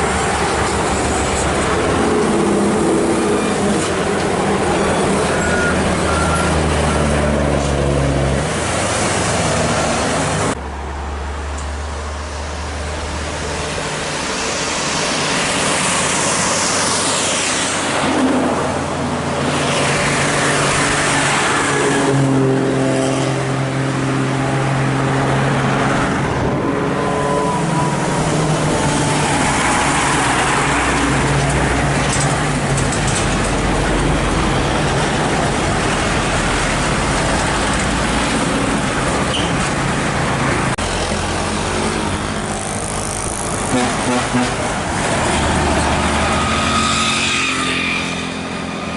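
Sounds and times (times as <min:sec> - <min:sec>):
diesel engine drone: 0:00.0 - 0:48.9
tyre whoosh of passing vehicles: 0:00.0 - 0:48.9.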